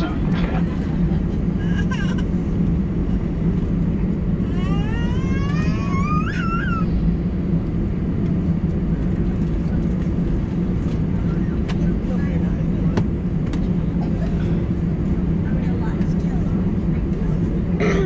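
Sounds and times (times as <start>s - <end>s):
aircraft cabin engine drone: 0.0s - 18.0s.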